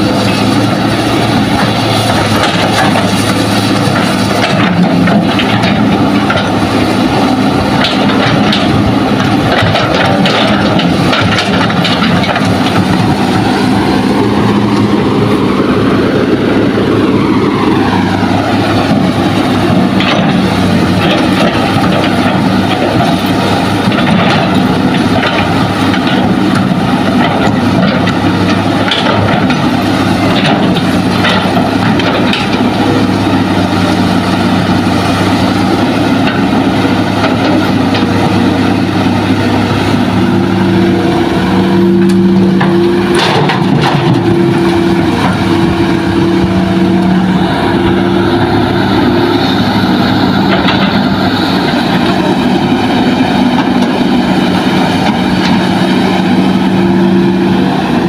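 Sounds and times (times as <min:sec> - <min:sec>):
diesel engine running under load: 0:00.0 - 0:58.0
hydraulic whine: 0:00.0 - 0:58.0.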